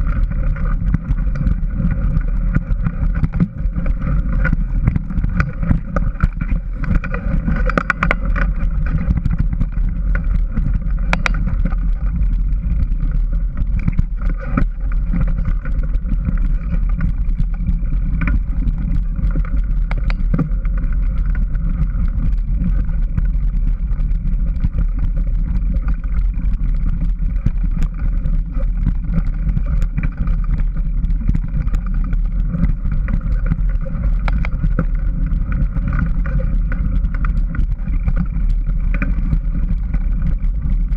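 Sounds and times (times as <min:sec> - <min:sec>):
clicks and rattles over bumps: 0:00.0 - 0:40.9
wind rumble on camera: 0:00.0 - 0:40.9.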